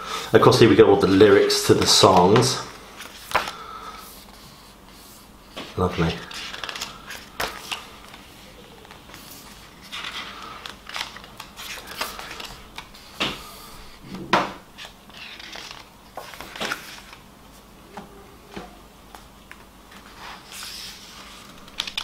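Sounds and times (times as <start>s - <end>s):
booklet pages turning: 1.1s - 14.0s, 14.7s - 17.6s, 19.1s - 22.0s.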